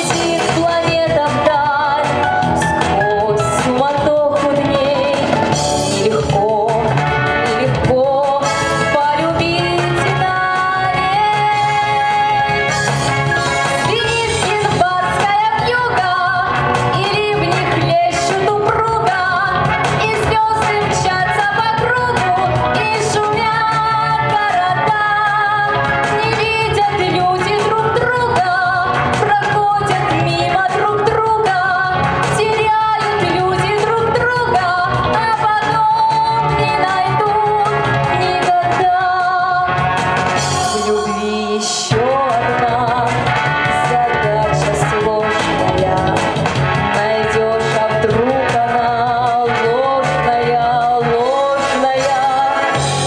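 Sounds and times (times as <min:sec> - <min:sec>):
instrumental accompaniment: 0:00.0 - 0:53.0
woman singing into a microphone: 0:00.0 - 0:53.0.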